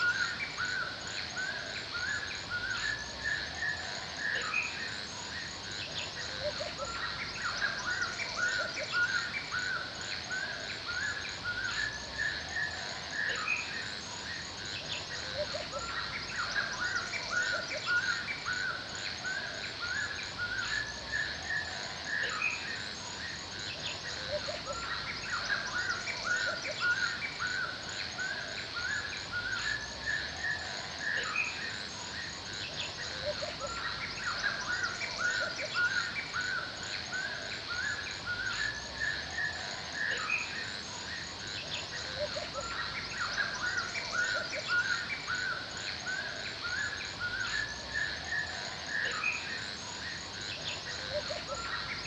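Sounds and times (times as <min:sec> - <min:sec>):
birds chirping and calling: 0:00.0 - 0:52.0
faint background hiss: 0:00.0 - 0:52.0.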